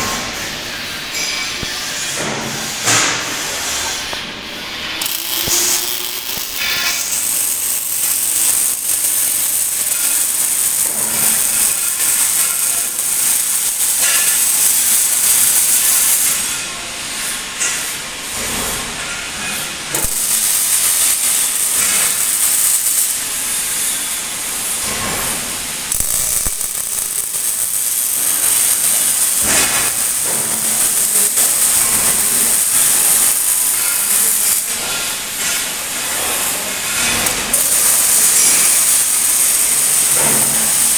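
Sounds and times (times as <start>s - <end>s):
welding arc hissing and crackling: 0.4s - 40.9s.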